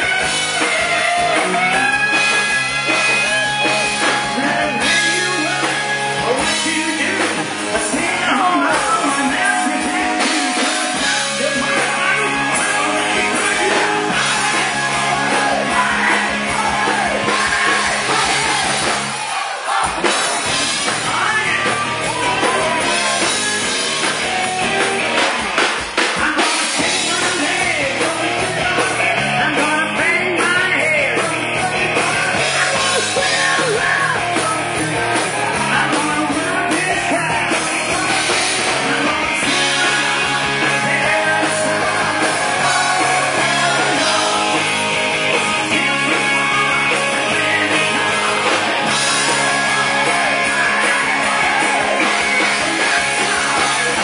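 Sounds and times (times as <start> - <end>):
person singing: 0.0 - 18.9, 26.2 - 54.0
bass guitar: 0.0 - 54.0
distorted electric guitar: 0.0 - 54.0
drum kit: 0.0 - 54.0.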